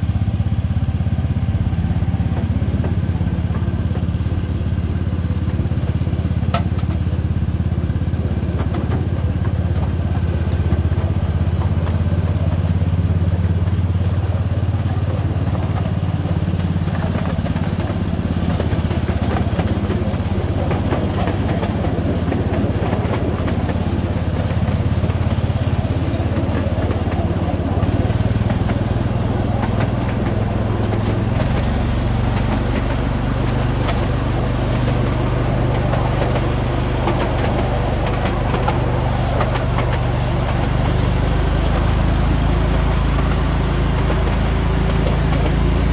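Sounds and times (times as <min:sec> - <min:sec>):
locomotive engine running: 0:00.0 - 0:45.9
wheels clicking on track: 0:00.0 - 0:45.9.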